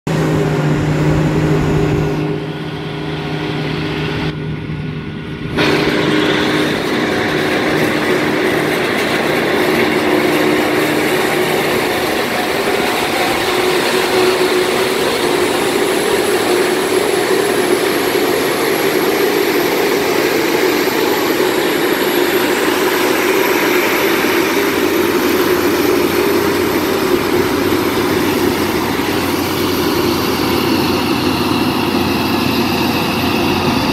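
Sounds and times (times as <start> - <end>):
harvester engine humming: 0.1 - 33.9
thin high whine: 0.1 - 33.9.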